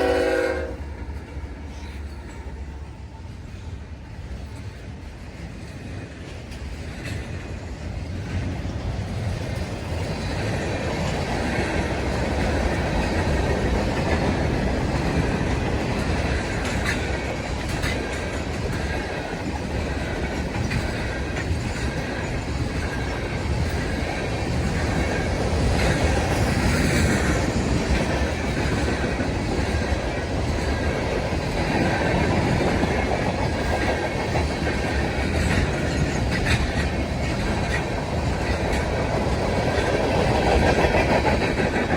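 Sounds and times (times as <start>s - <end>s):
train wheels clattering: 0.0s - 41.9s.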